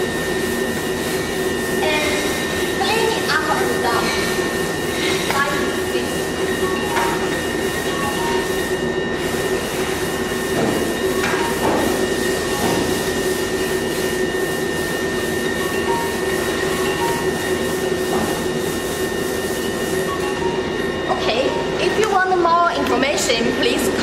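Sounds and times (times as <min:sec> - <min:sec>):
factory machinery hum: 0:00.0 - 0:24.0.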